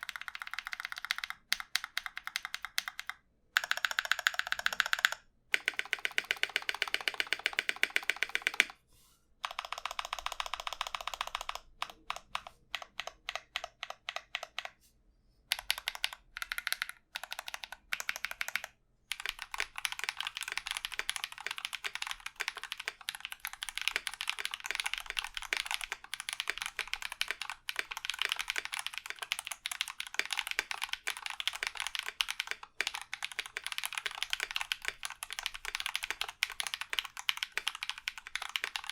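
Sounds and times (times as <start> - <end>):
mechanical keyboard typing: 0.0 - 8.8, 9.4 - 14.8, 15.5 - 38.9.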